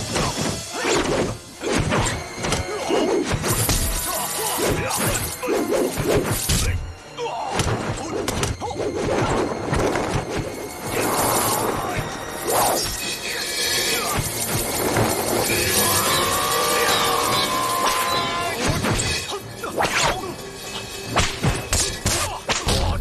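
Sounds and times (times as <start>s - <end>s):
dramatic background music: 0.0s - 23.0s.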